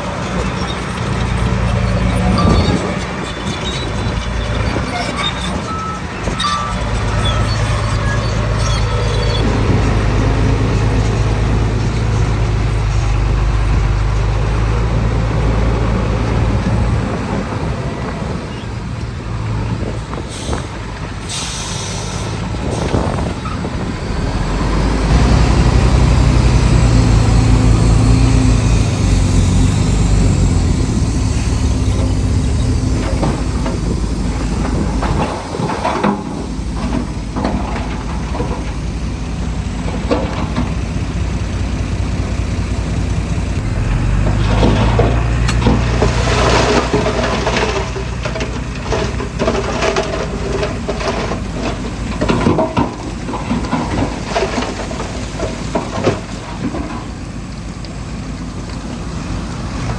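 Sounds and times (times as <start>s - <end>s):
heavy diesel engines under load: 0.0s - 59.9s.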